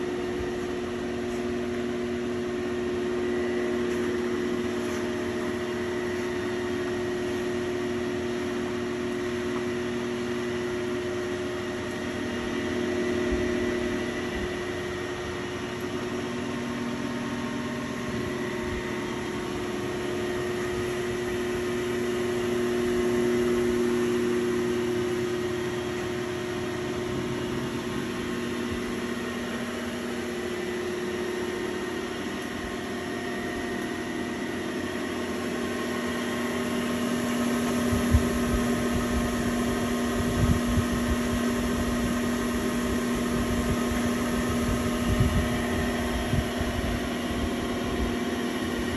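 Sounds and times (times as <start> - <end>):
disc grinder motor hum: 0.0 - 48.9.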